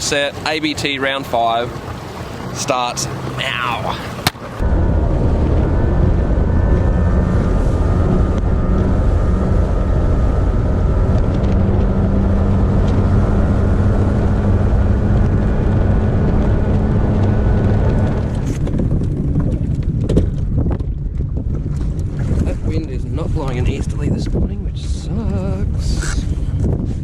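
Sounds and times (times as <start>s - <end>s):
outboard motor running: 0.0s - 27.0s
rush of noise: 2.4s - 27.0s.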